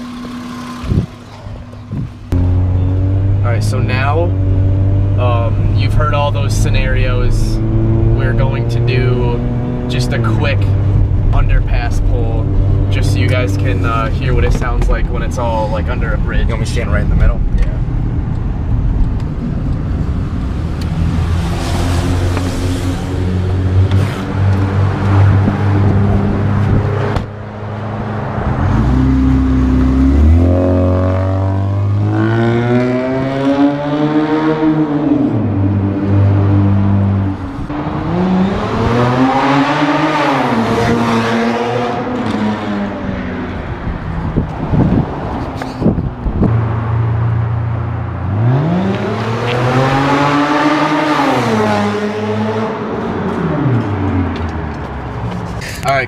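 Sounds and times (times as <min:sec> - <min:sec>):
car exhaust accelerating: 0:00.0 - 0:56.0.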